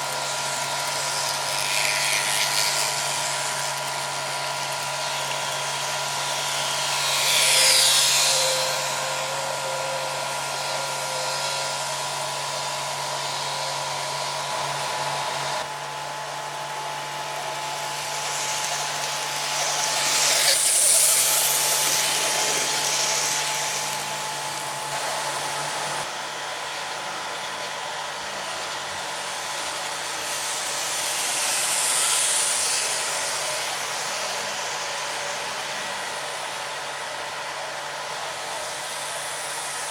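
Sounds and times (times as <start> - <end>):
model train whirring on track: 0.0 - 39.9.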